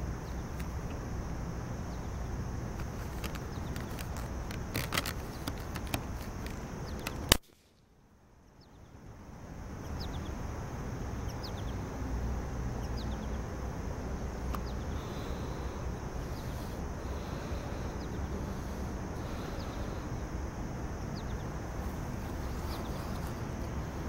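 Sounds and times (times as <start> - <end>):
small birds chirping: 0.0 - 7.4, 8.4 - 24.0.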